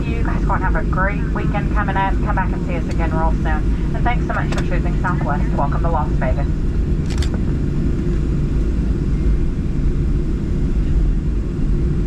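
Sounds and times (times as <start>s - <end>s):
aircraft cabin engine rumble: 0.0s - 12.0s.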